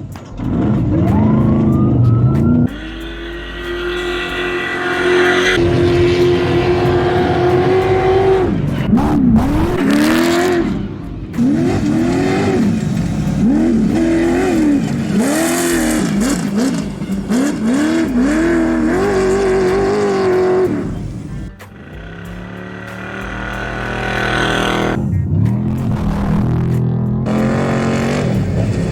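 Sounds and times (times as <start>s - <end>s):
race truck engine revving: 0.0s - 28.9s.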